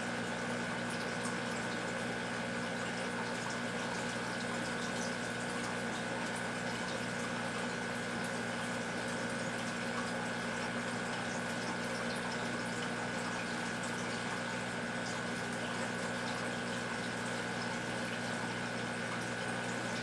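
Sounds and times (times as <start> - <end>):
aquarium filter humming: 0.0 - 20.0
water trickling and bubbling: 2.6 - 20.0.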